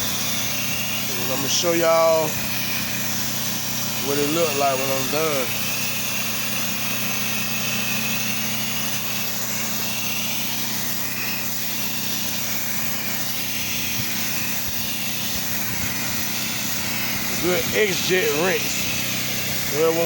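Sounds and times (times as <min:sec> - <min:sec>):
pressure washer engine running: 0:00.0 - 0:20.0.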